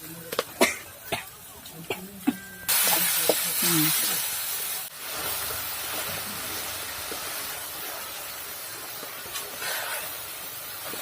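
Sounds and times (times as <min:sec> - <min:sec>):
gravy sizzling in hot pan: 0:00.0 - 0:11.0.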